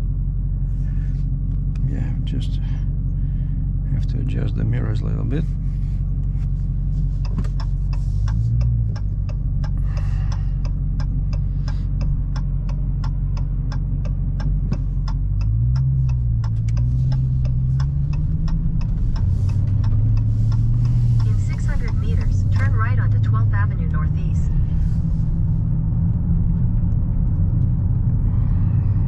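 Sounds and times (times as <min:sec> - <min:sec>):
car engine droning: 0:00.0 - 0:29.0
turn signal ticking: 0:01.3 - 0:29.0.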